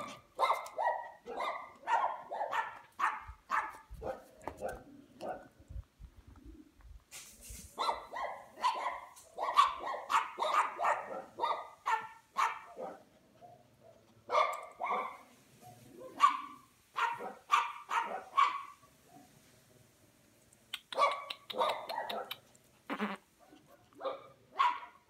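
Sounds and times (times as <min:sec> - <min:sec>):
puppy barking: 0:00.0 - 0:05.5, 0:07.8 - 0:19.3, 0:20.9 - 0:25.0.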